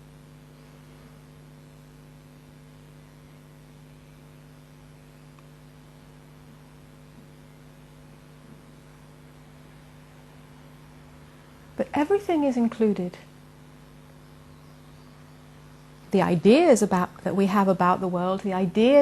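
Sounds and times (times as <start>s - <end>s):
faint hiss: 0.0s - 17.4s
steady electrical hum: 0.0s - 19.0s.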